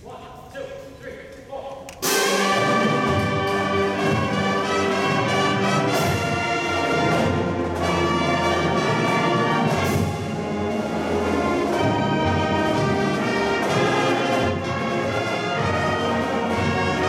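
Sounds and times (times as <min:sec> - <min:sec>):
sharp percussion accents: 0:02.0 - 0:15.8
marching band brass playing: 0:02.0 - 0:17.0.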